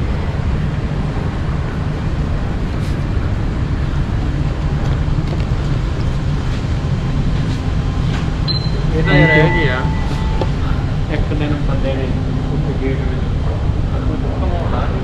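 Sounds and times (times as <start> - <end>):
vehicle rumble from inside cabin: 0.0 - 15.0.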